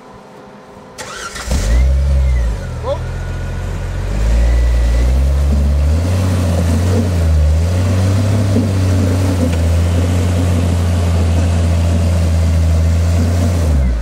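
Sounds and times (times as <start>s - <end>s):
car engine running under load: 1.0s - 14.0s.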